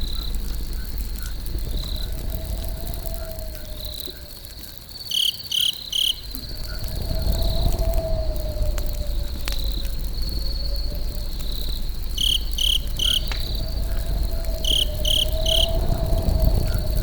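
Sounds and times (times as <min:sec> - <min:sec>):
campfire crackle: 0:00.0 - 0:17.0
campfire rumble: 0:00.0 - 0:17.0
crickets chirping: 0:00.0 - 0:17.0.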